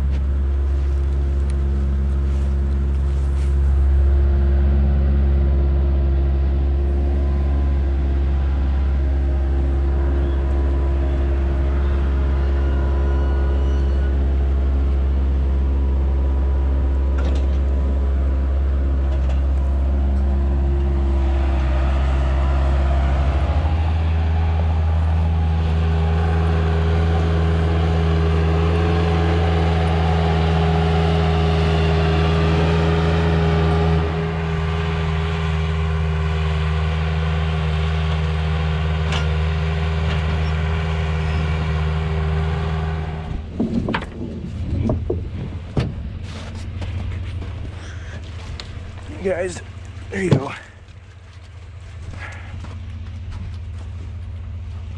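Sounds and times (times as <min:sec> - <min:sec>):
loader engine running: 0:00.0 - 0:54.9.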